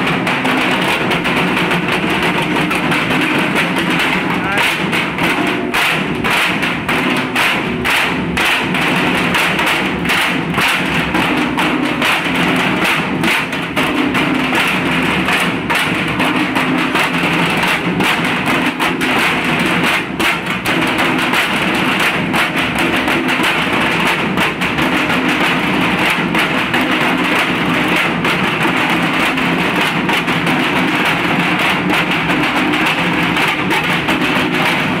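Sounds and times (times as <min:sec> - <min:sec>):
barrel drums played fast: 0:00.0 - 0:35.0.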